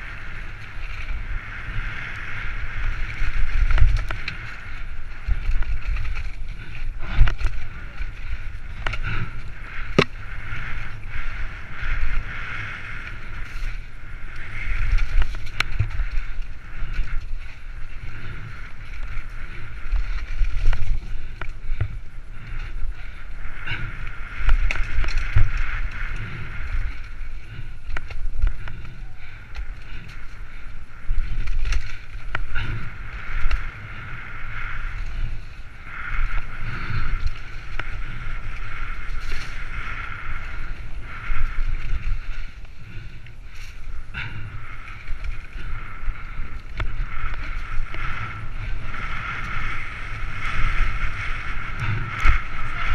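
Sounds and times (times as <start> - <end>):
bike rattling: 0.0 - 52.9
wind buffeting microphone: 0.0 - 52.9.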